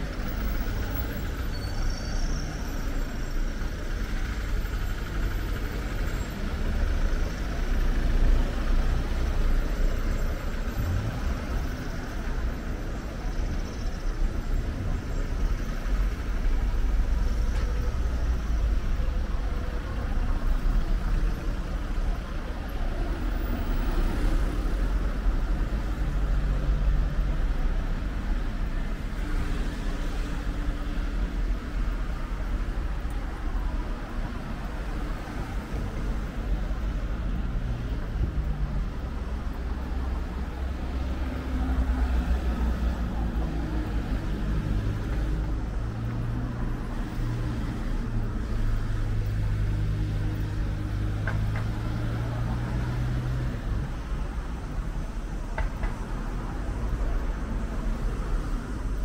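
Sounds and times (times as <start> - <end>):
cars passing: 0.0 - 1.8, 2.5 - 59.0
road traffic rumble: 0.0 - 59.0.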